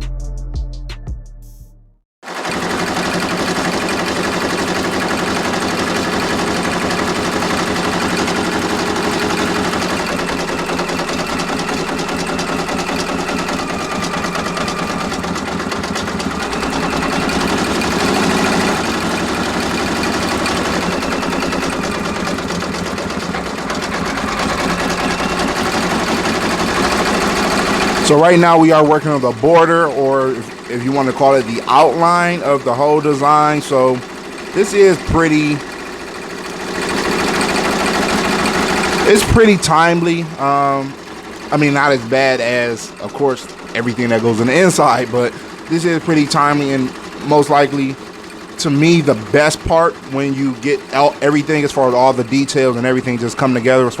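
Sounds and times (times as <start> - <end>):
embroidery machine stitching: 2.2 - 54.0.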